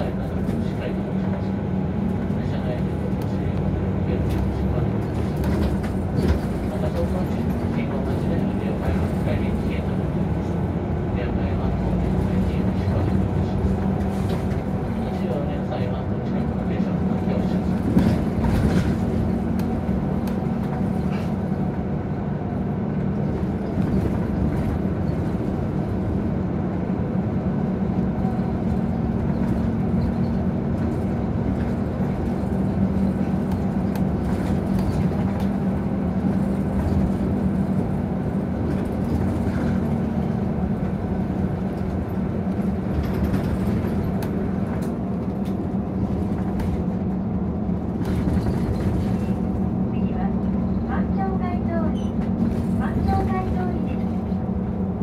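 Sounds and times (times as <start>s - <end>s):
bus engine humming: 0.0s - 55.0s.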